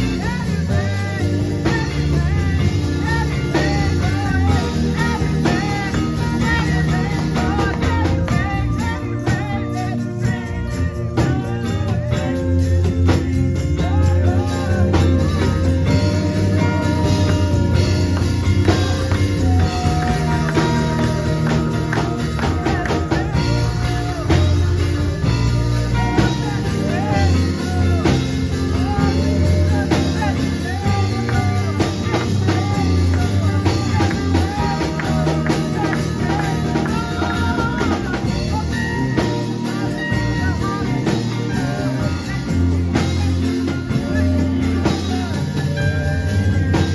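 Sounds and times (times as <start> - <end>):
drum kit: 0.0 - 46.9
electric bass guitar: 0.0 - 46.9
electric guitar melody: 0.0 - 46.9
keyboard melody: 0.0 - 46.9.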